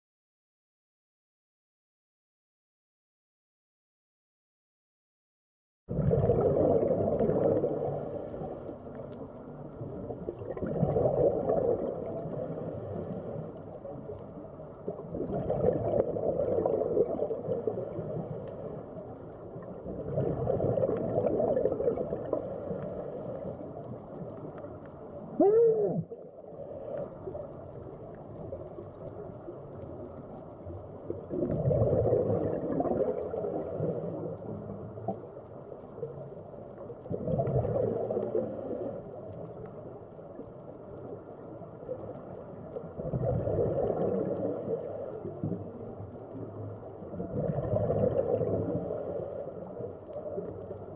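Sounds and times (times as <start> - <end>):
exhaled bubbles gurgling: 5.9 - 50.9.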